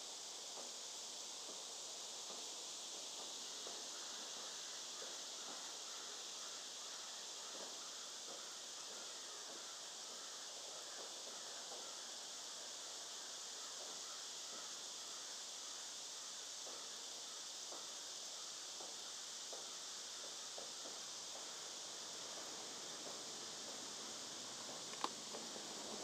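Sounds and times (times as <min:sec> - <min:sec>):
insects droning in chorus: 0:00.0 - 0:26.0.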